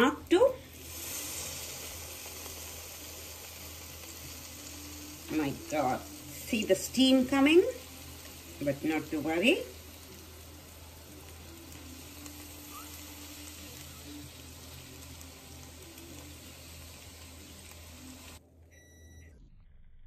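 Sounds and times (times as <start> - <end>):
egg sizzling in waffle maker: 0.0 - 18.4
low hum: 1.5 - 20.0.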